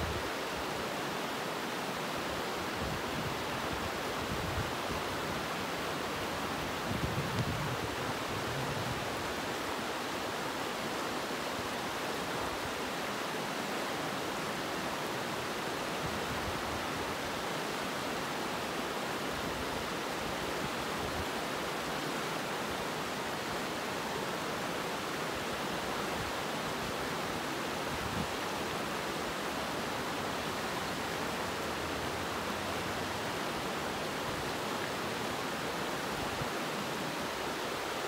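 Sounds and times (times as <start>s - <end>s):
river rushing over stones: 0.0s - 38.0s.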